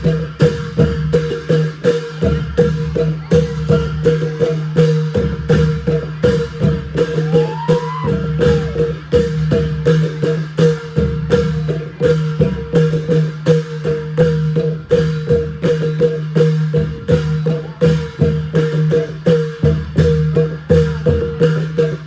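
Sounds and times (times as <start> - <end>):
long drums playing: 0.0 - 22.0.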